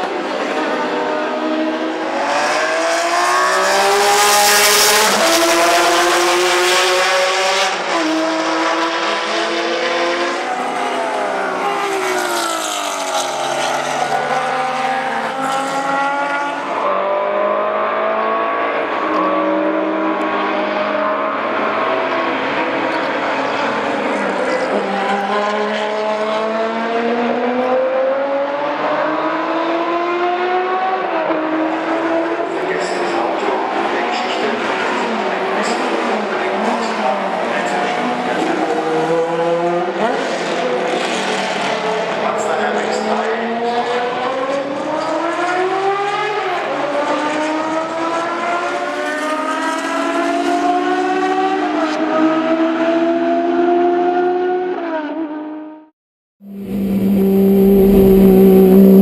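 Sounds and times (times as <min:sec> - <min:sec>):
racing engines passing at full throttle: 0:00.0 - 0:59.0.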